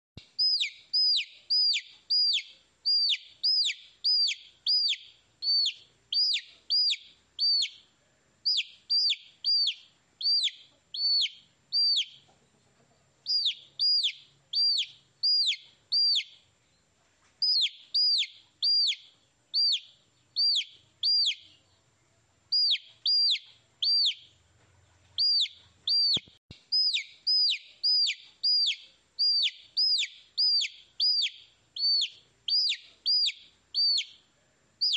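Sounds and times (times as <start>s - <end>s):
baby chick peeping: 0.2s - 34.9s.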